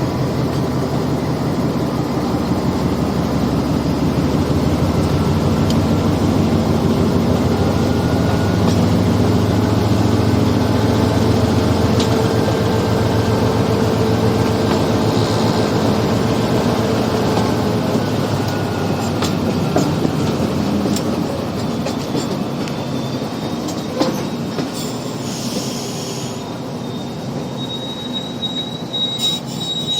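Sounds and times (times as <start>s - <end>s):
wheels clicking on rails: 0.0s - 25.8s
locomotive engine drone: 0.0s - 29.9s.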